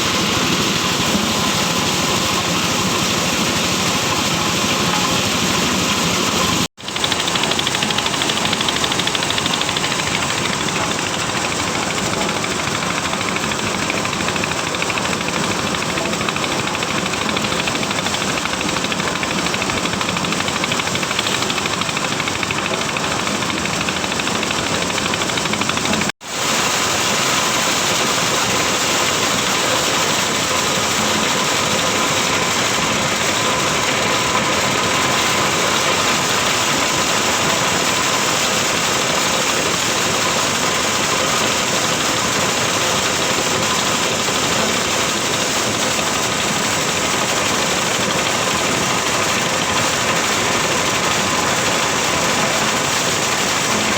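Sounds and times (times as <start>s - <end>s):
corn sheller machine running: 0.0s - 53.9s.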